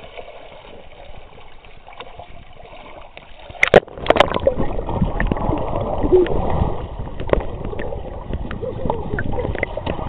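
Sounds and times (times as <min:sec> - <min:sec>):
pool water splashing: 0:00.0 - 0:10.0
muffled underwater rumble: 0:00.7 - 0:10.0.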